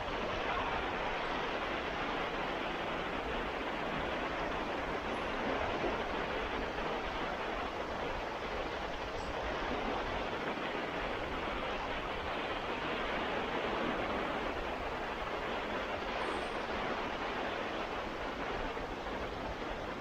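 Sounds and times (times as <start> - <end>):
surf washing ashore: 0.0 - 20.0.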